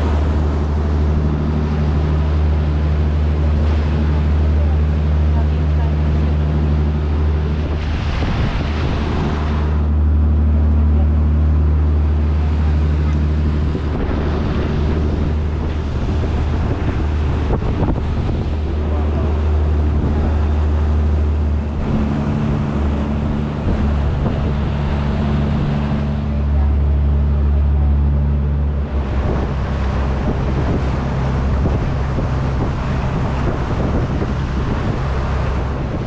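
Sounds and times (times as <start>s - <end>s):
boat engine running: 0.0s - 36.0s
water rushing past hull: 0.0s - 36.0s
wind on microphone: 0.0s - 36.0s.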